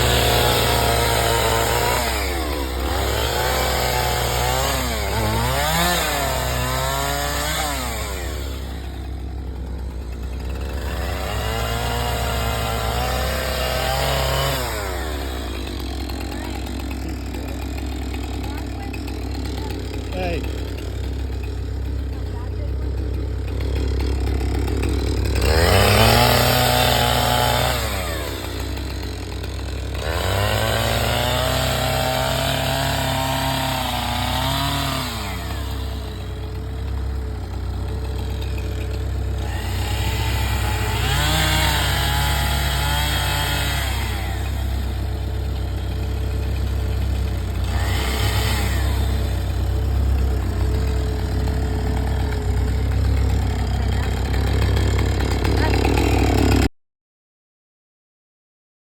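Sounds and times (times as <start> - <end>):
chainsaw idling and revving: 0.0 - 56.8.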